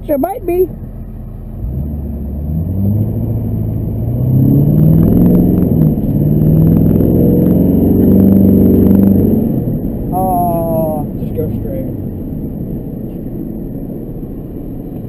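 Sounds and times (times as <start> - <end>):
pickup engine accelerating: 0.0 - 15.0.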